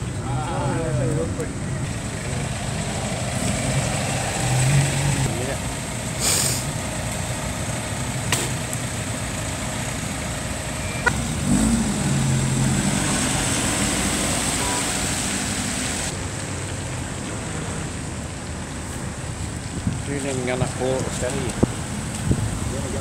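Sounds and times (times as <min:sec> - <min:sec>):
car engines running: 0:00.0 - 0:23.0
tyres hissing on wet road: 0:01.9 - 0:23.0.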